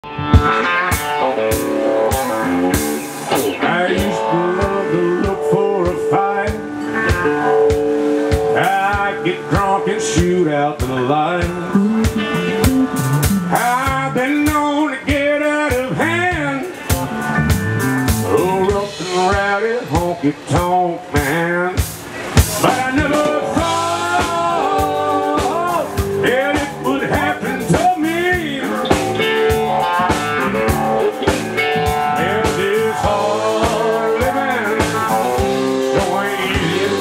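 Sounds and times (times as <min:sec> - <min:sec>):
electric guitar lead with bending notes: 0:00.0 - 0:37.0
steady drum beat: 0:00.3 - 0:37.0.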